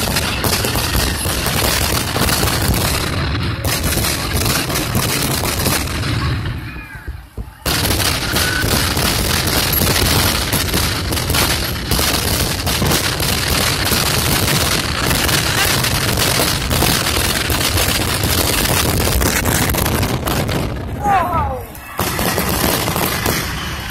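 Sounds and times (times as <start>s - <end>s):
fireworks booming and crackling: 0.0s - 23.9s.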